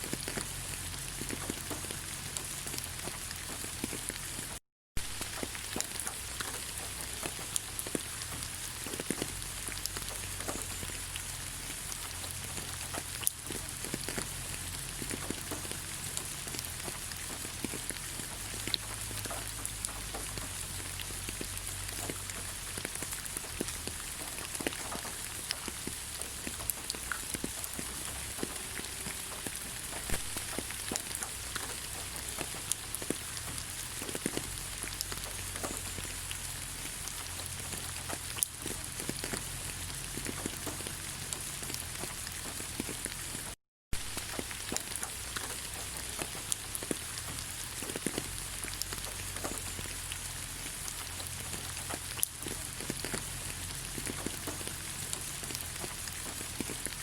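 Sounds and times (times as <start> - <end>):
rain hiss: 0.0 - 57.0
raindrops ticking on leaves: 0.0 - 57.0.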